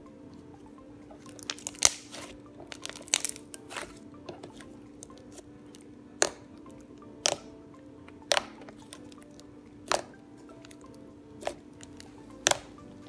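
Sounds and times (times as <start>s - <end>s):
slime popping squelches: 1.2s - 7.5s, 8.1s - 12.8s.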